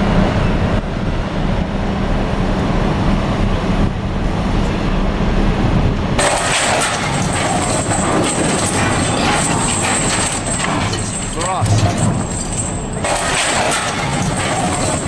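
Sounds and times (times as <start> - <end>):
heavy machinery engine hum: 0.0 - 15.0.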